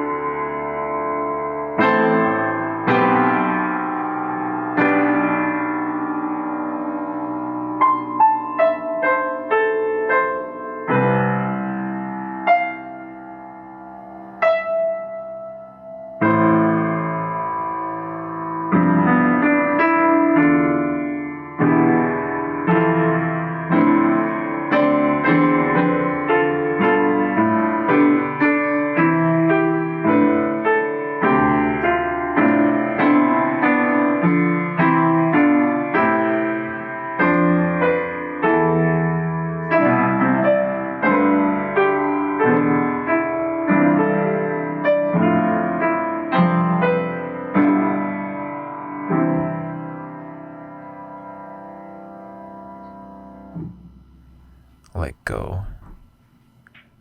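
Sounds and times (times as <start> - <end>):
solo piano: 0.0 - 54.4.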